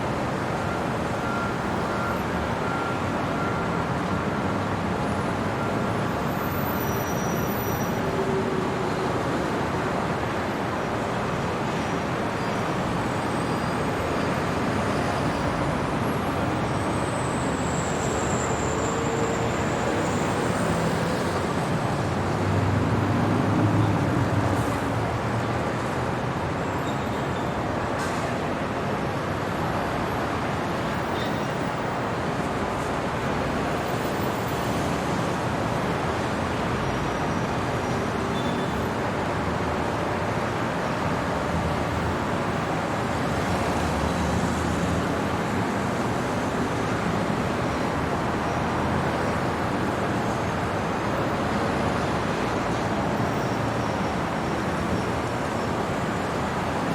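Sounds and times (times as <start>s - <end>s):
city traffic passing: 0.0s - 56.9s.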